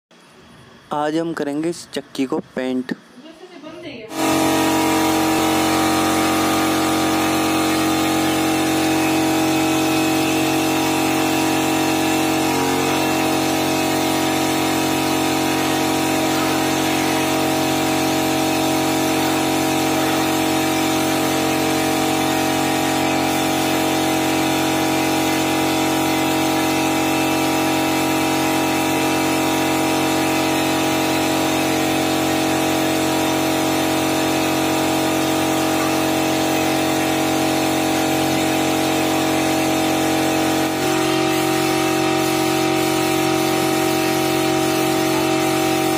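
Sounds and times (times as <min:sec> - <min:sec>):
air compressor humming: 0:00.1 - 0:45.9
paint spray gun hissing: 0:00.2 - 0:45.9.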